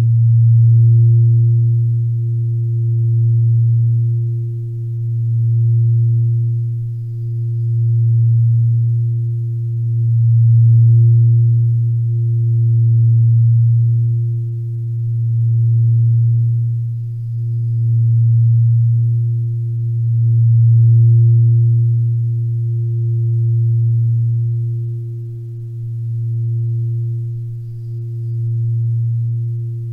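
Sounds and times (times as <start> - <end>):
low meditative drone: 0.0 - 29.9.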